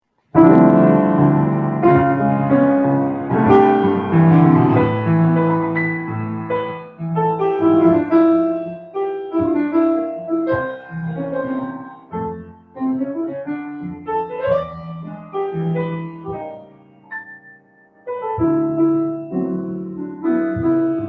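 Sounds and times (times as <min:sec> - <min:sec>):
solo piano music: 0:00.0 - 0:21.0.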